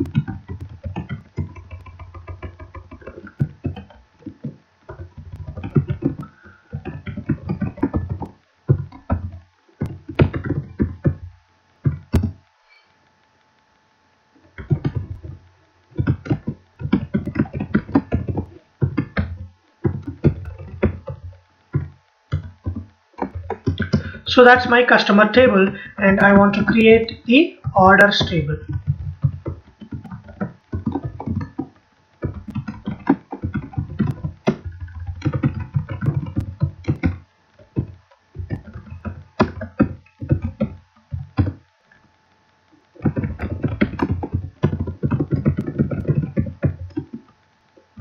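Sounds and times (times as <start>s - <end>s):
typing on keyboard: 0.0s - 12.4s, 14.6s - 41.6s, 42.9s - 47.3s.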